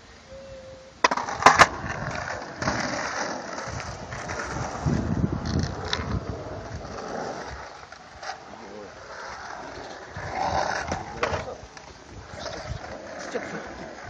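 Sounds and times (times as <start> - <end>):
skateboard wheels rolling on concrete: 0.6 - 14.0
skateboard clacks on concrete: 1.0 - 8.5, 9.2 - 14.0.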